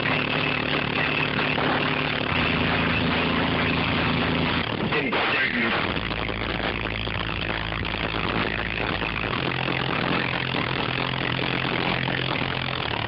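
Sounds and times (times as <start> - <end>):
subwoofer bass tone: 0.0 - 13.0.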